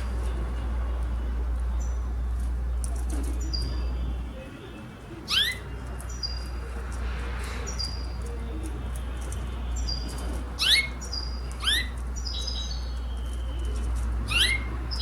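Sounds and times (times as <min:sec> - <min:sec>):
canary chirping: 0:00.0 - 0:15.0.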